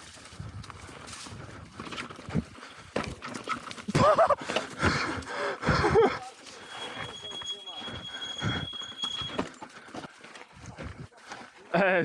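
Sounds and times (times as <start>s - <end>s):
mountain bike clattering: 0.0s - 10.4s.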